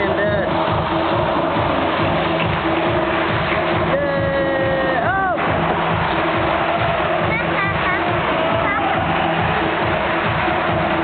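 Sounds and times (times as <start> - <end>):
circus music with steady beat: 0.0 - 11.0
crowd noise: 0.0 - 11.0.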